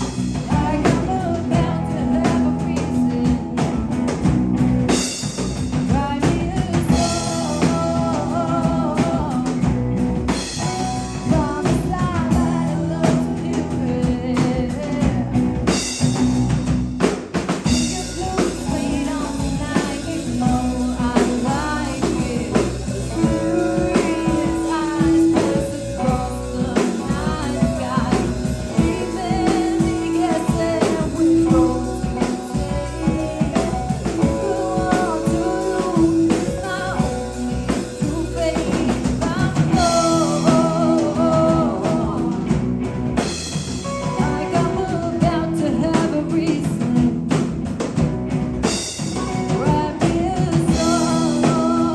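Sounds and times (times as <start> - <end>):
person singing: 0.0 - 4.3, 4.9 - 16.2, 17.6 - 47.9, 49.2 - 51.9
bass guitar: 0.0 - 51.9
drum kit with cymbal crashes: 0.0 - 51.9
electric guitars: 0.0 - 51.9.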